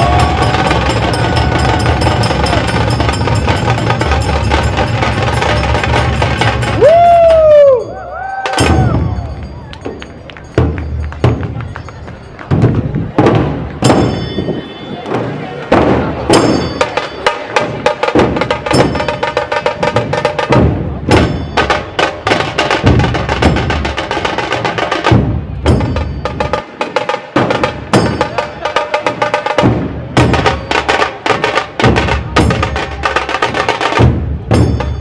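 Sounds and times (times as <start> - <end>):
deep heavy drum beats: 0.0 - 7.8, 8.4 - 11.8, 12.4 - 14.4, 15.1 - 35.0.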